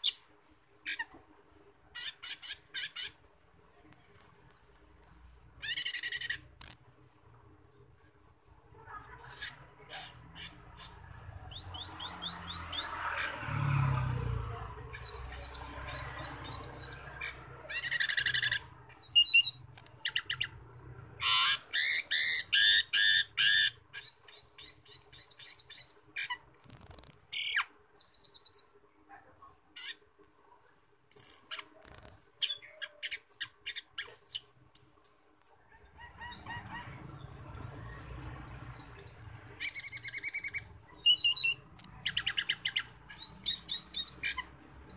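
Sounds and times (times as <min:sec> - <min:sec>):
starling singing: 0:03.9 - 0:20.6, 0:21.2 - 0:28.7, 0:29.8 - 0:44.9.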